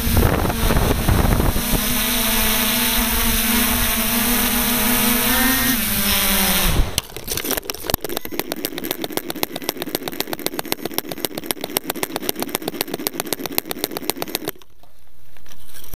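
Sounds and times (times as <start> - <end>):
drone knocking as it tumbles: 0.0 - 14.6
drone motors winding down: 0.0 - 14.8
rapid ticking: 0.0 - 14.9.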